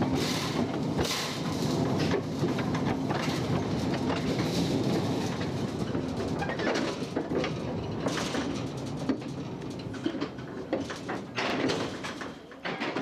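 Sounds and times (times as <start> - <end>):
carriages rattling and clanking: 0.0 - 13.0
mine train rumbling: 0.0 - 13.0.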